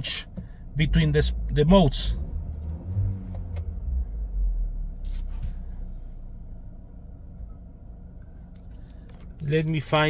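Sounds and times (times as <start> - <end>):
car cabin hum and rumble: 0.0 - 10.0.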